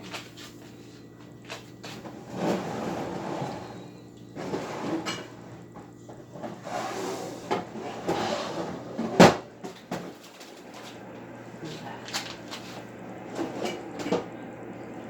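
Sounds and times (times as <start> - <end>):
items handled inside refrigerator: 0.0 - 14.4.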